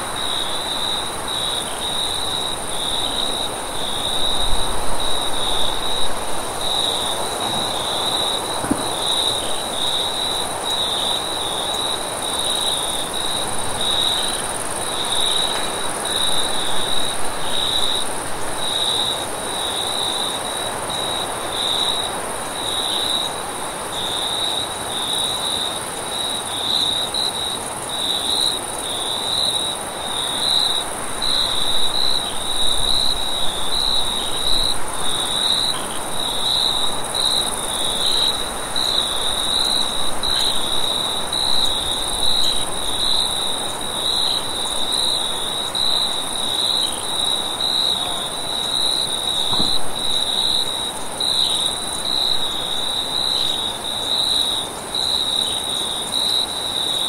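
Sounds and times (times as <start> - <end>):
crickets chirping: 0.0 - 57.0
high-pitched insect trill: 0.1 - 57.0.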